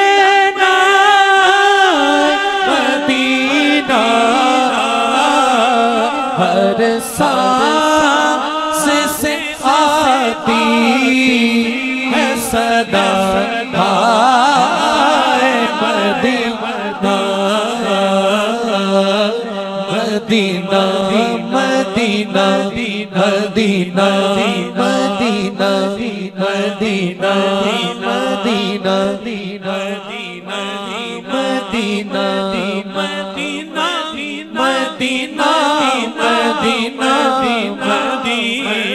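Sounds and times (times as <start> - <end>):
man singing into a microphone: 0.0 - 38.9.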